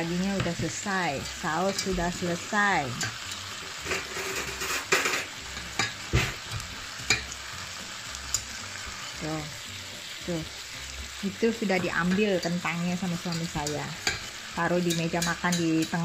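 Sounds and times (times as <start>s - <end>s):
steaks sizzling in a pan: 0.0s - 16.0s.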